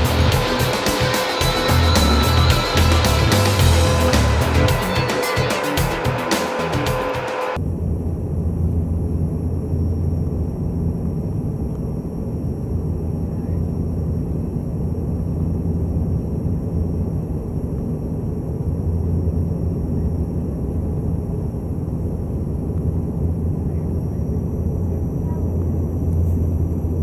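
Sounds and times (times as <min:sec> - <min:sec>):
faint high whine: 0:00.0 - 0:27.0
turboprop engines droning: 0:00.0 - 0:27.0.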